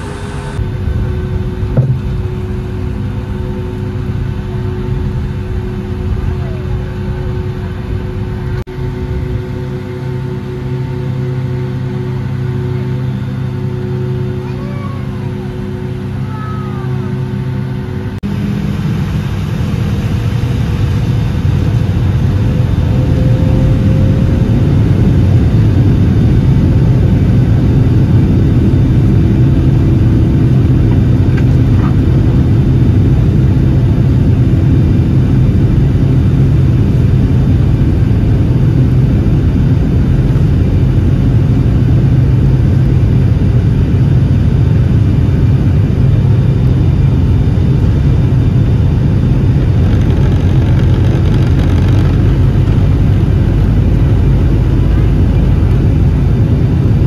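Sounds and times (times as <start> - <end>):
jet engines rumbling on takeoff: 0.0 - 57.0.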